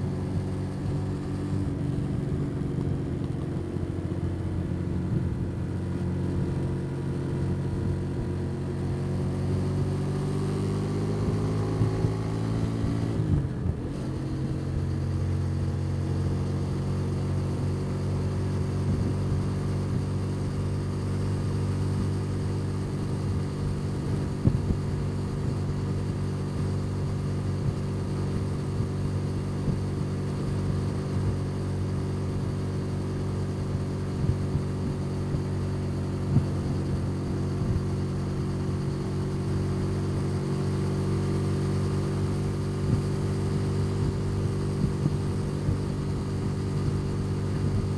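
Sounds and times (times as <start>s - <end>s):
motorcycle engine: 9.4s - 47.9s.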